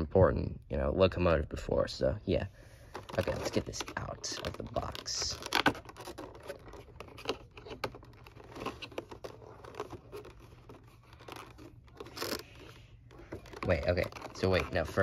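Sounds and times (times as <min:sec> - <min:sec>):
plastic case clicks and crinkles: 0:02.8 - 0:15.0.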